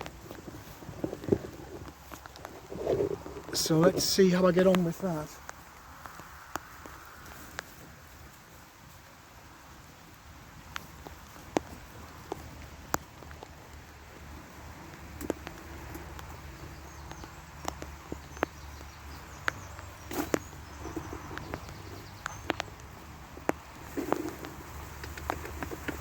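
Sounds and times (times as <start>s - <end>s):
raindrops tapping hard surface: 0.0s - 26.0s.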